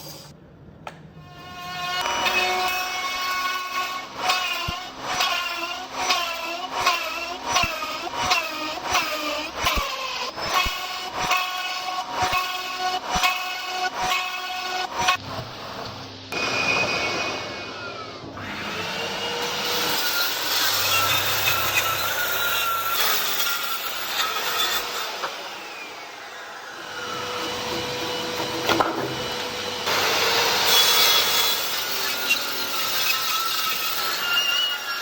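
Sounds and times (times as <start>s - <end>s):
hand tools shaving wood: 2.0s - 15.6s, 18.4s - 35.0s.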